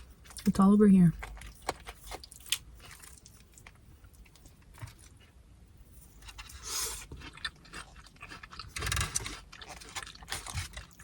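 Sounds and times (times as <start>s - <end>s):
person chewing food: 1.2s - 11.0s.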